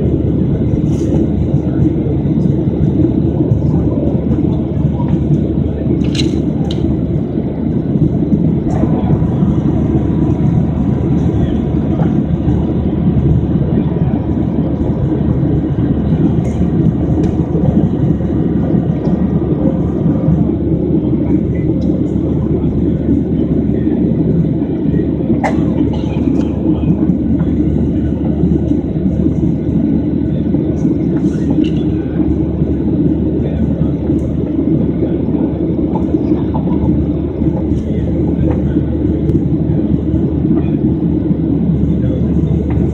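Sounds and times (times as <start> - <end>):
jet engines droning: 0.0 - 42.9
rushing air: 0.0 - 42.9.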